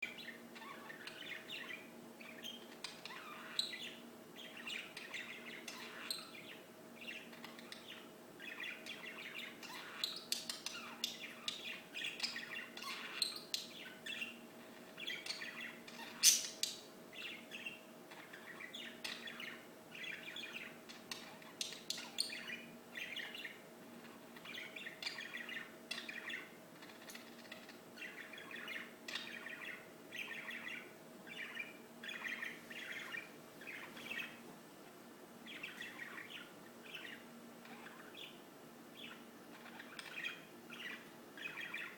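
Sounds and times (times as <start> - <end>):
faint steady hum: 0.0 - 41.9
small birds chirping: 0.0 - 41.9.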